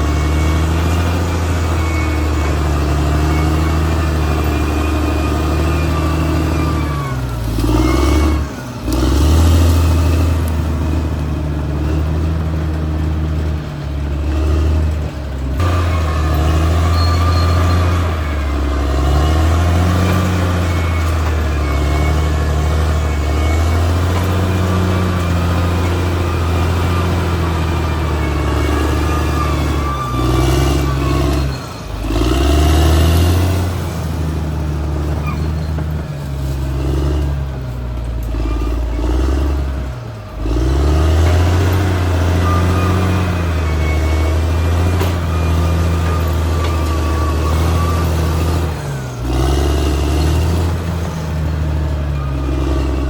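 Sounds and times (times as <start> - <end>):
bulldozer diesel engine working hard: 0.0 - 53.0.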